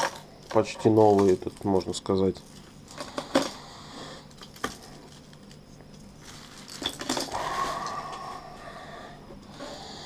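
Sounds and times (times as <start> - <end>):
faint steady noise: 0.0 - 10.0.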